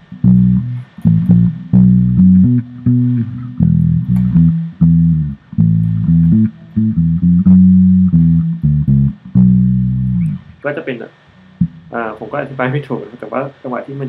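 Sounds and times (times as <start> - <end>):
electric bass guitar: 0.0 - 13.0.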